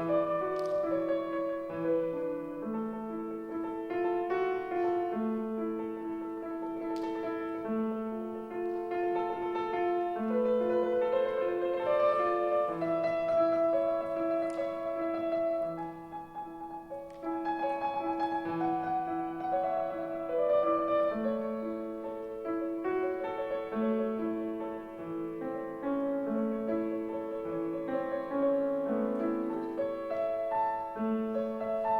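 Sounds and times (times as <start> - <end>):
solo classical piano: 0.0 - 31.9.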